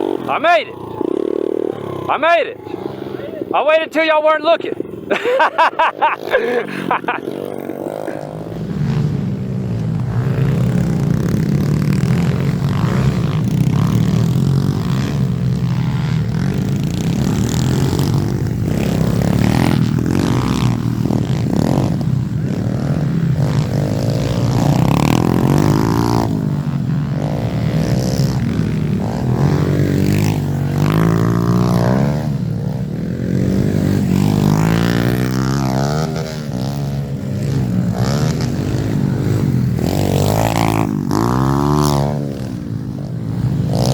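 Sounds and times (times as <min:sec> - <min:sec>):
pit bike engines revving: 0:00.0 - 0:43.9.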